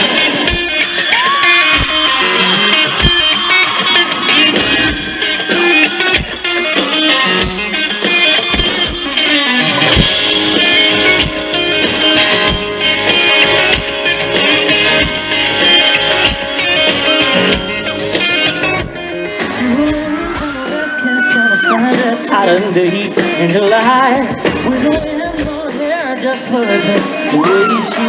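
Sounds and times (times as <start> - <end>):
electric guitars: 0.0 - 28.0
drum beat: 0.1 - 9.2, 9.9 - 28.0.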